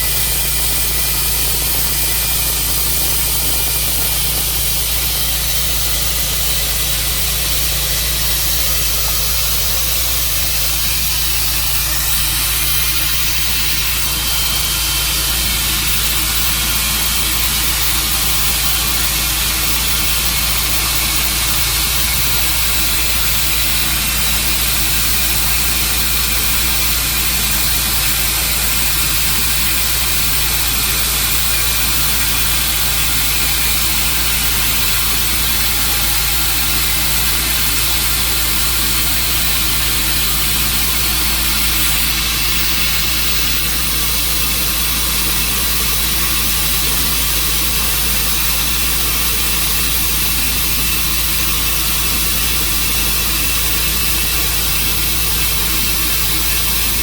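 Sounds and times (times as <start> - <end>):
engine running with low hum: 0.0 - 57.0.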